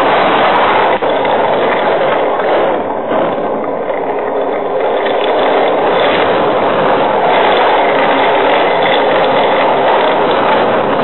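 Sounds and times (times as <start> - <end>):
heavy rain: 0.0 - 11.0
storm wind: 0.0 - 11.0.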